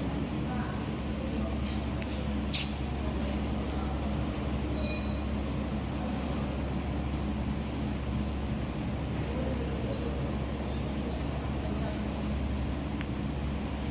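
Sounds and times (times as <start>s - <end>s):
induction furnace humming: 0.0s - 13.9s.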